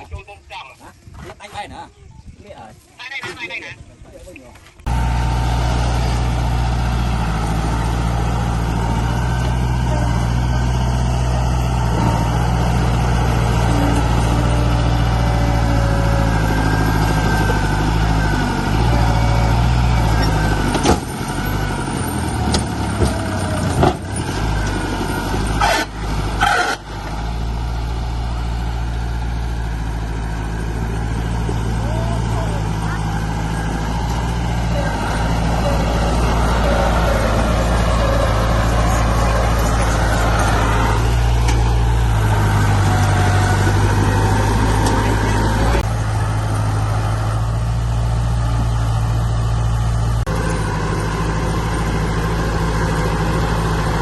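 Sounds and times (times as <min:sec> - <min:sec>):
heavy diesel engine running: 0:04.8 - 0:54.0.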